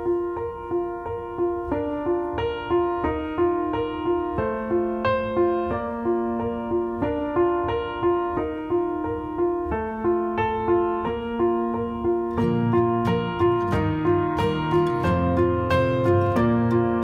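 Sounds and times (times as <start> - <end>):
piano repeating pattern: 0.0 - 17.0.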